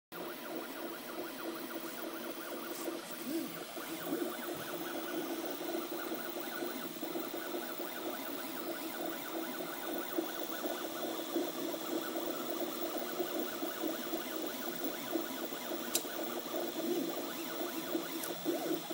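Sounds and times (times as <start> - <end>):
printer stepper motors buzzing whine: 0.2 - 18.9.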